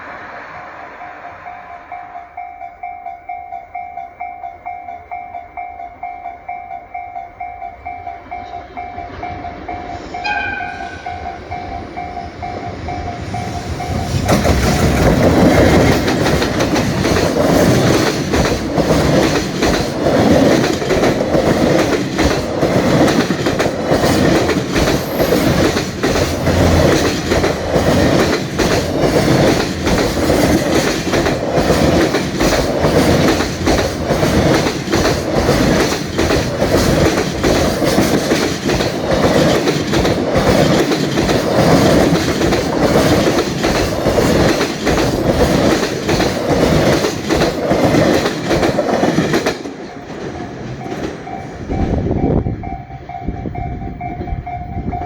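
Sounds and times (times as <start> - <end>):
level-crossing bell clanging: 0.9 - 55.0
freight train wheels clattering: 6.9 - 55.0.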